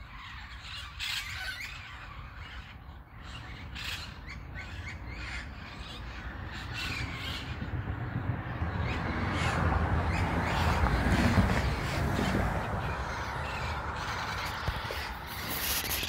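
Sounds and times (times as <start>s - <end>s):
parakeets squawking: 0.0s - 7.9s, 8.8s - 16.0s.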